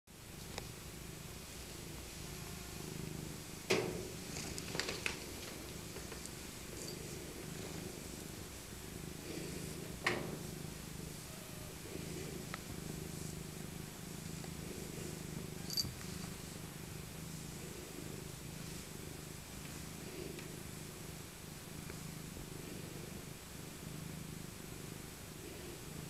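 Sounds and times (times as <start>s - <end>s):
cat purring: 0.2s - 26.0s.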